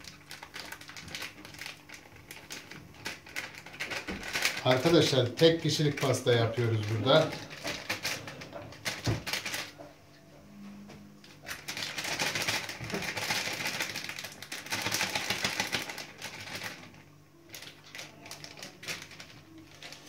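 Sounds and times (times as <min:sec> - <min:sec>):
sachet crinkling and rustling: 0:00.0 - 0:09.8, 0:11.3 - 0:20.0.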